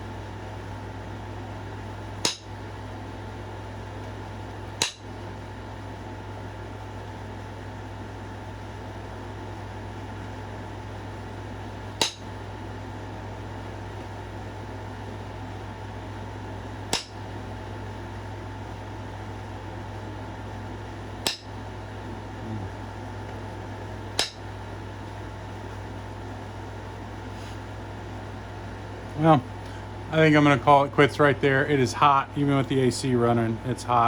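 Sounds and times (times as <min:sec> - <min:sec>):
air conditioner hum: 0:00.0 - 0:34.0.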